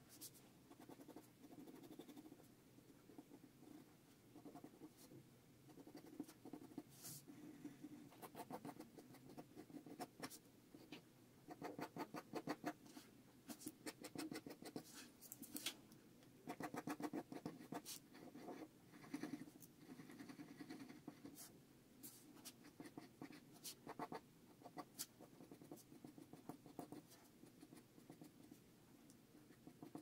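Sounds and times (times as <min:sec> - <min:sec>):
pencil scratching on paper: 0:00.1 - 0:02.5, 0:03.1 - 0:15.6, 0:16.5 - 0:28.6, 0:29.4 - 0:30.0.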